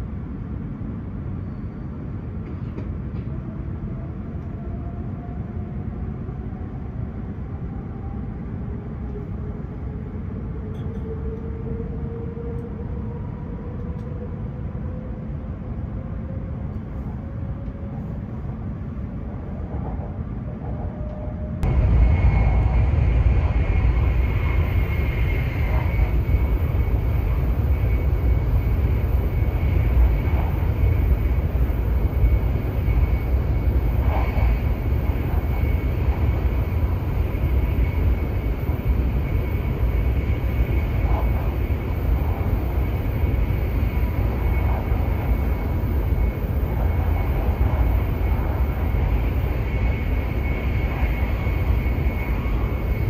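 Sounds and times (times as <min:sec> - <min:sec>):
train cabin low rumble: 0:00.0 - 0:53.0.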